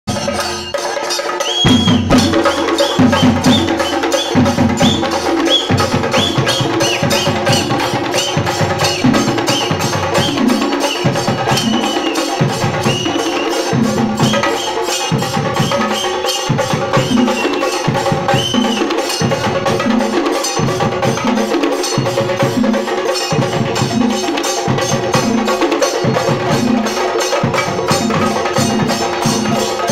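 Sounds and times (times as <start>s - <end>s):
drums beaten with sticks: 0.1s - 29.9s.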